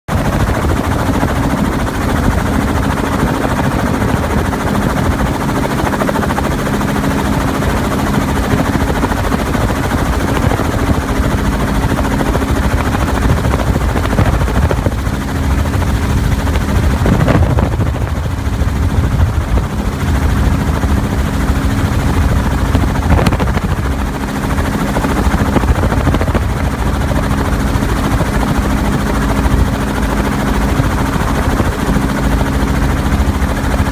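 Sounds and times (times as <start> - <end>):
helicopter rotor and engine: 0.1 - 33.9.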